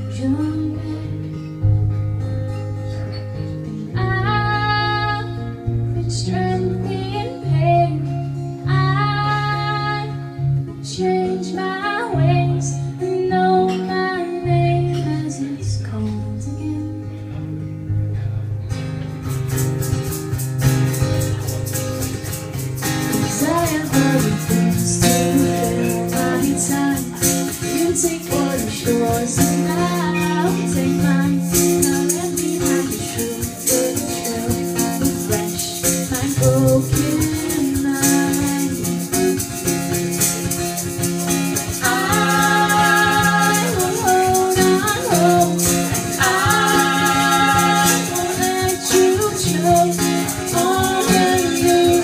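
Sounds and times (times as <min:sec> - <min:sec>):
woman singing: 0:00.0 - 0:01.4, 0:03.9 - 0:17.2, 0:23.1 - 0:39.8, 0:41.5 - 0:52.0
strummed acoustic guitar: 0:00.0 - 0:52.0.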